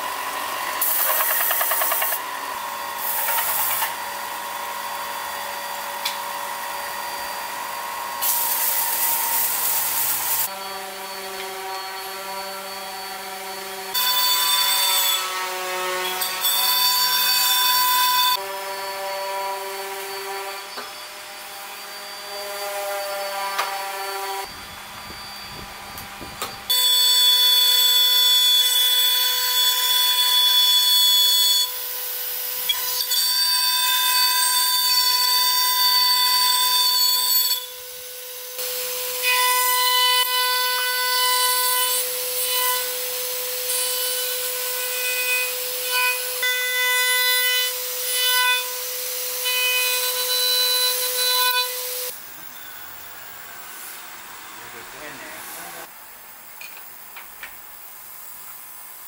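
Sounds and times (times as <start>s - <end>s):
router spindle cutting wood: 0.0s - 52.8s.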